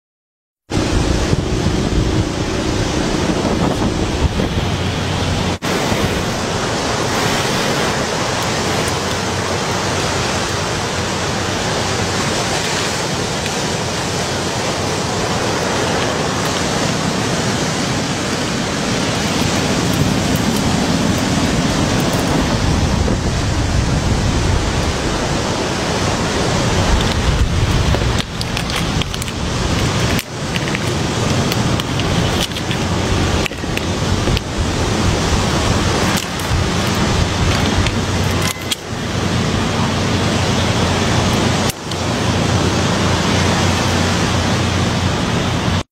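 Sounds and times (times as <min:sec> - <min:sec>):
loud rushing noise: 0:00.7 - 0:45.8.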